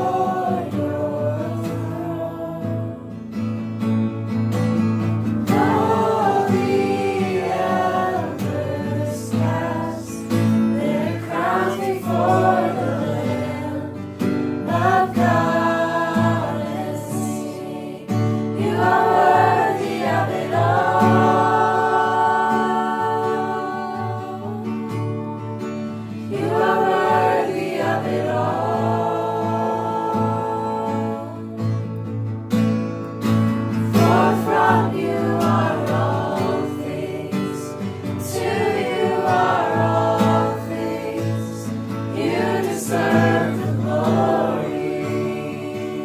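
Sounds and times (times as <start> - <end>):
choir singing: 0.0 - 3.5, 5.3 - 31.8, 33.7 - 46.0.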